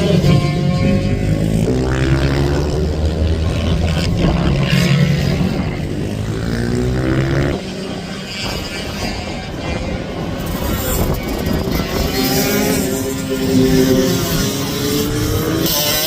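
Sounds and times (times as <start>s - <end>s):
minibike engines revving: 0.0s - 16.0s.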